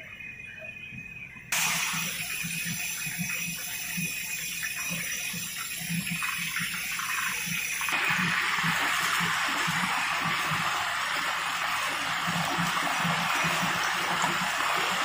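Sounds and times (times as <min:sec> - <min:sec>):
meat deep-frying in hot oil: 0:01.5 - 0:15.0.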